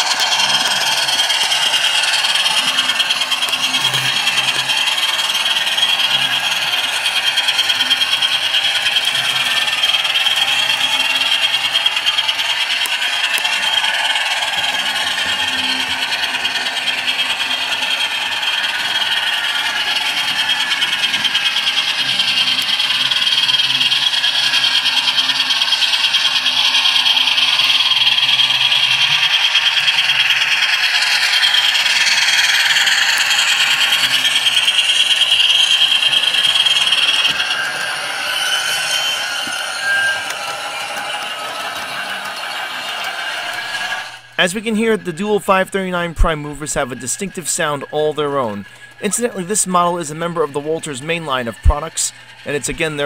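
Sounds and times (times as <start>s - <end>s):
diesel engine sound from small speaker: 0.0s - 53.0s
model train wheels rattling: 0.0s - 53.0s.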